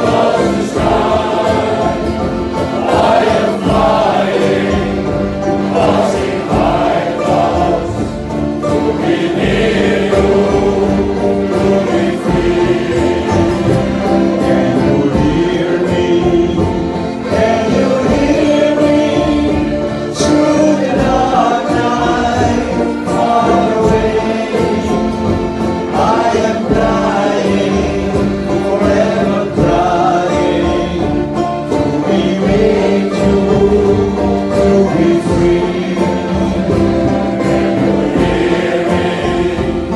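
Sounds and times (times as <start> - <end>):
accordion: 0.0 - 39.9
box bass: 0.0 - 39.9
male choir singing shanty: 0.0 - 39.9.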